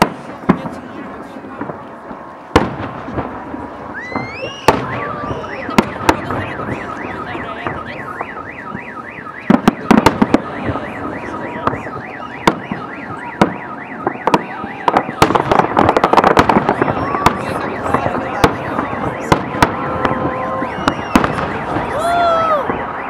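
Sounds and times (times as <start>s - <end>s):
fireworks bursting with bangs: 0.0s - 23.0s
car alarm warbling: 3.9s - 23.0s.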